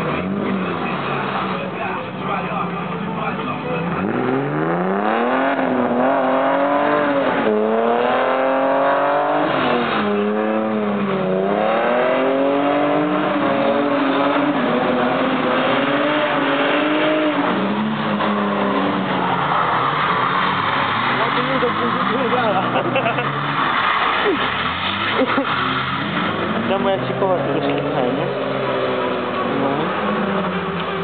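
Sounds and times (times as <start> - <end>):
car engine revving hard: 2.4 - 31.0.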